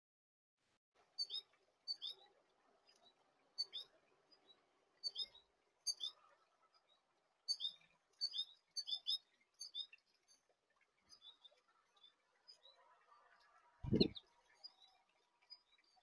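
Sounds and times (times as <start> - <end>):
songbirds chirping: 1.0 - 16.0.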